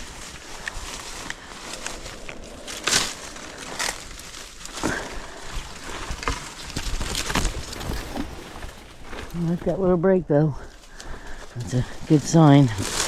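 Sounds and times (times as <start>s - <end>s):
leaves and branches brushing past: 0.0s - 10.0s, 10.6s - 13.0s
footsteps: 0.0s - 13.0s.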